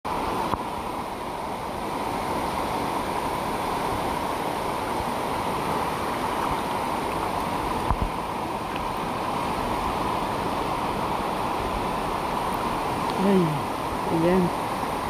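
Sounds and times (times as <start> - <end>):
water rushing: 0.1 - 15.0.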